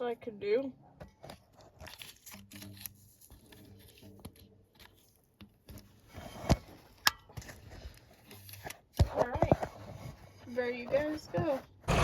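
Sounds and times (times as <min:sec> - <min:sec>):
faint handling noise: 0:01.0 - 0:11.8.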